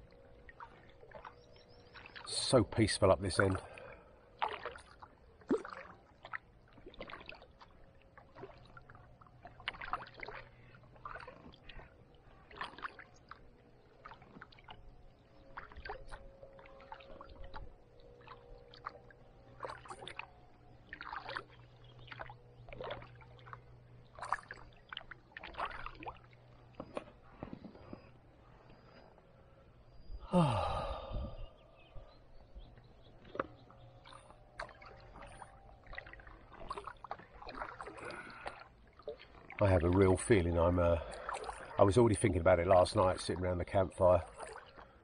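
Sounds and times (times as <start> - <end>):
water dripping: 0.0 - 27.2, 32.7 - 45.0
paddle splashing in water: 0.0 - 29.1, 33.0 - 45.0.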